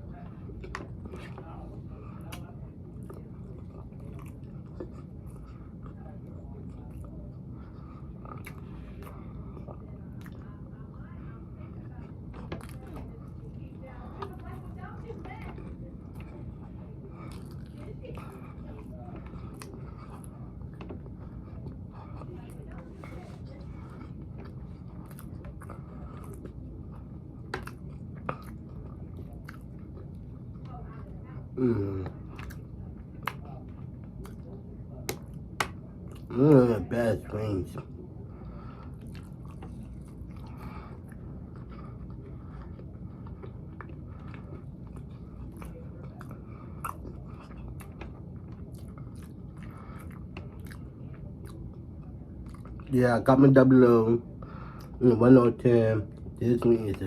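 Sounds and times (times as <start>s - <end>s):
steady low hum: 0.0s - 57.0s
person chewing chicken wings: 2.0s - 6.0s, 6.6s - 10.4s, 11.9s - 13.4s, 15.5s - 53.0s.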